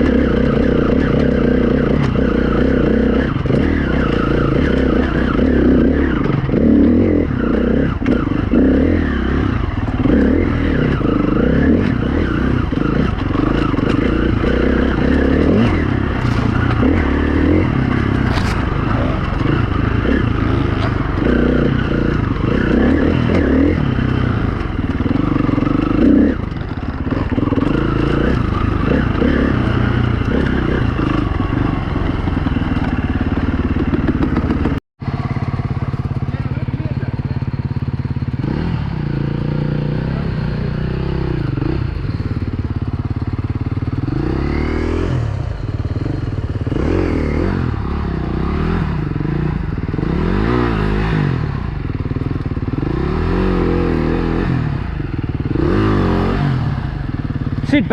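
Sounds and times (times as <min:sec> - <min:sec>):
dirt bike engine revving: 0:00.0 - 0:35.7, 0:36.3 - 0:57.9.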